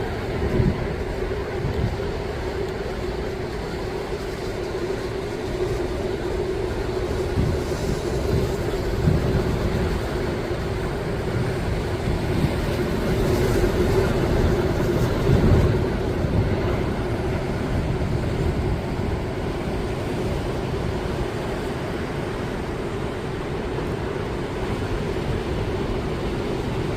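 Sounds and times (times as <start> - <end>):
heavy sea surf rumbling: 0.0 - 26.9
wind on microphone: 0.0 - 26.9.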